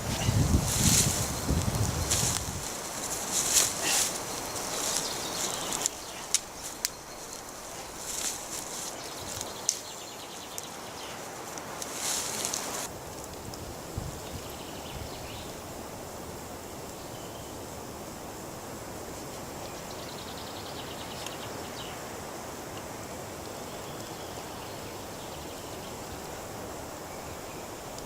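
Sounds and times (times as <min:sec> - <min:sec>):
steady rushing outdoor noise: 0:00.0 - 0:23.5.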